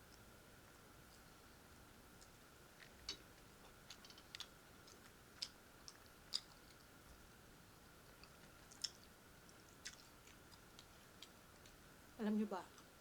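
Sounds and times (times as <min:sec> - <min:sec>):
faint steady hum: 0:00.0 - 0:13.0
chewing food: 0:00.1 - 0:12.0.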